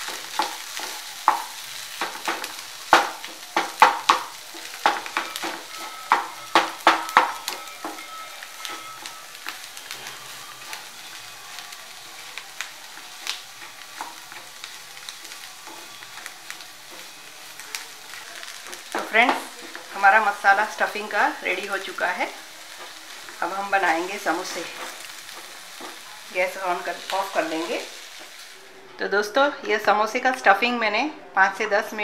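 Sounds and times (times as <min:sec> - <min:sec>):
spatula scraping and tapping pan: 0:00.0 - 0:11.2, 0:12.2 - 0:28.4
faint sizzle: 0:00.0 - 0:32.0.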